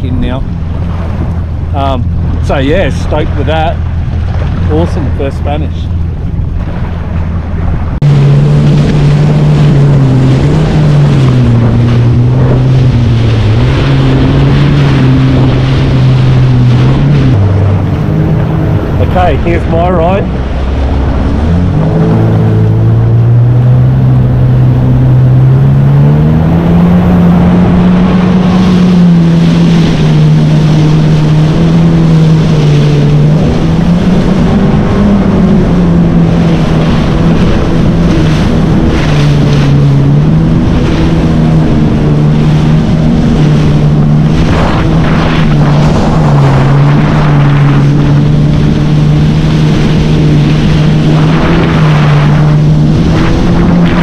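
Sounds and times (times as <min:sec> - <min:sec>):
jet ski engine running: 0:00.0 - 0:54.0
water noise: 0:00.0 - 0:54.0
wind buffeting microphone: 0:00.0 - 0:54.0.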